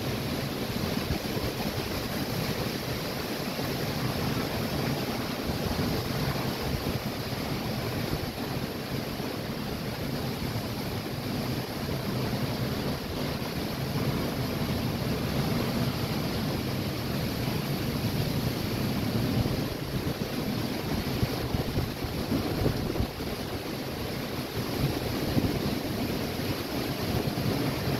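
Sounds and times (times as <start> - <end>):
strong wind: 0.0 - 27.9
surf breaking against seawall: 0.0 - 27.9.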